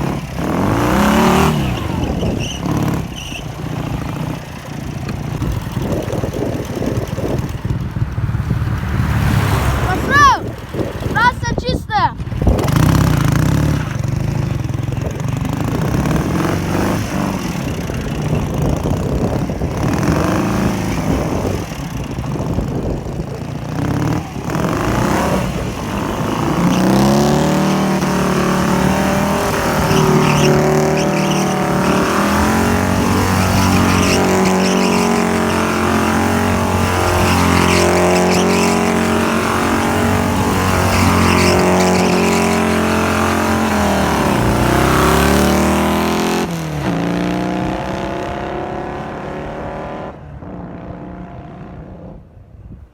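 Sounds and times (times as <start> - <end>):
motorcycle engine revving: 0.0 - 11.3, 12.1 - 52.2.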